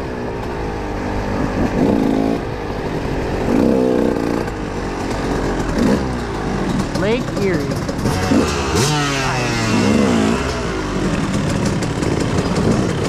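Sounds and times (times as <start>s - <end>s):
dirt bike engine revving: 0.7s - 13.0s.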